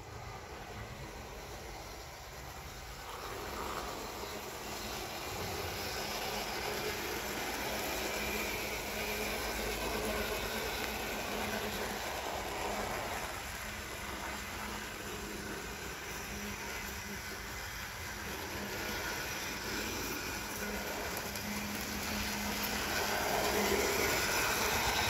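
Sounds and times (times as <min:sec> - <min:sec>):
electric motors whirring: 0:00.0 - 0:25.0
wheels on rails: 0:00.0 - 0:25.0.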